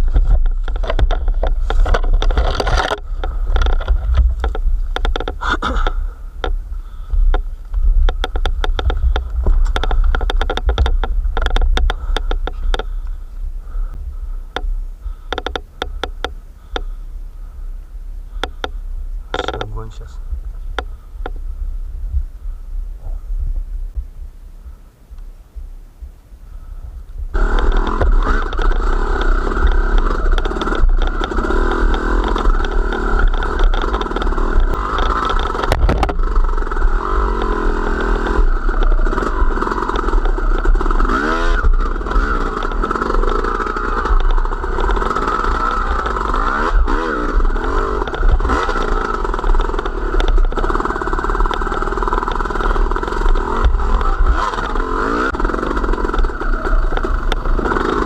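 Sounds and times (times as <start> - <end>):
wind rumble on microphone: 0.0 - 16.8, 17.6 - 58.0
small motor vehicle engine: 0.0 - 21.8, 26.5 - 58.0.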